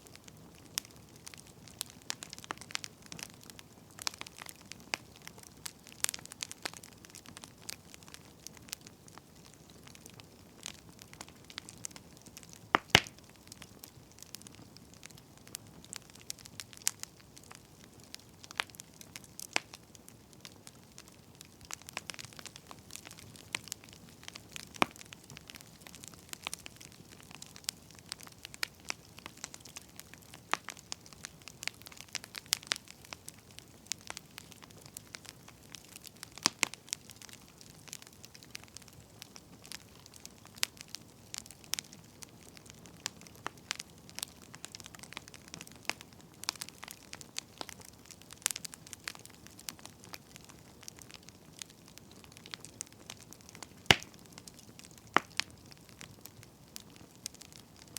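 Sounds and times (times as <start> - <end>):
firewood crackling and popping: 0.0 - 57.9
soft hiss of fire: 0.0 - 57.9.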